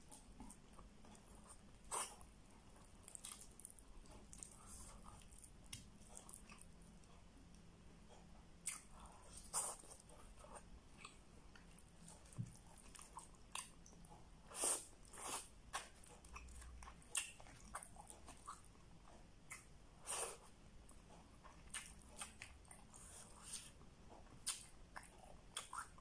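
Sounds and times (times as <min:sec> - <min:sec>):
person chewing with mouth smacks: 0:00.0 - 0:06.8, 0:08.6 - 0:26.0.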